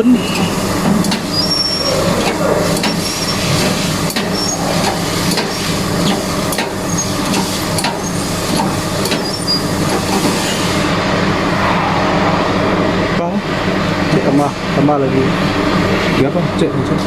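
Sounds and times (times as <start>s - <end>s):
low mechanical hum: 0.0s - 16.2s.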